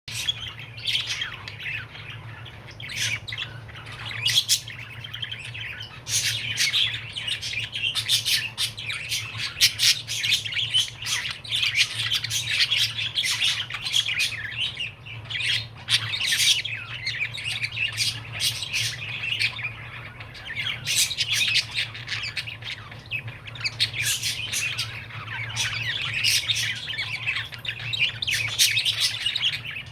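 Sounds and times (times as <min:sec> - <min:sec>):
budgerigar chirping and warbling: 0:00.1 - 0:29.9.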